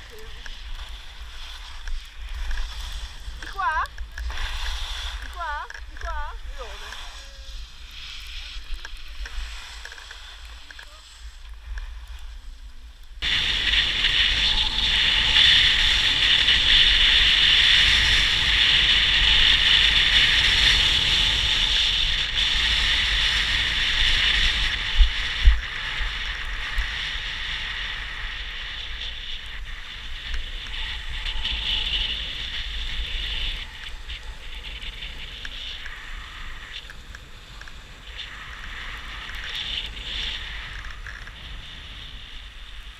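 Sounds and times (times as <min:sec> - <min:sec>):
skis scraping over hard snow: 0:00.0 - 0:42.9
wind rumbling on microphone: 0:00.0 - 0:42.9.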